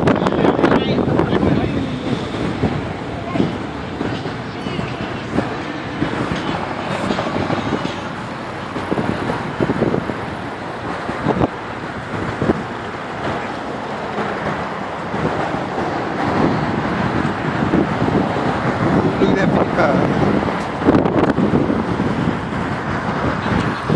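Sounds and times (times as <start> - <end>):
cars passing: 0.0 - 23.9
wind buffeting microphone: 0.0 - 23.9.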